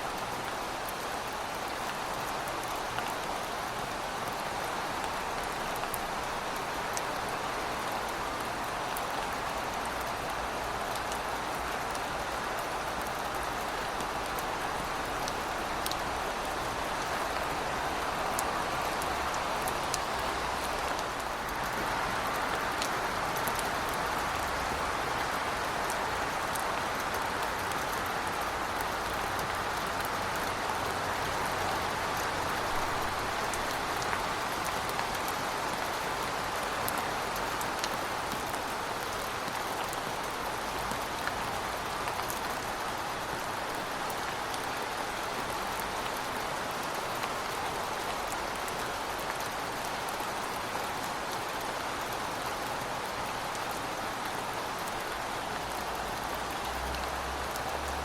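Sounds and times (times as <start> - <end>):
heavy rain falling: 0.1 - 58.0.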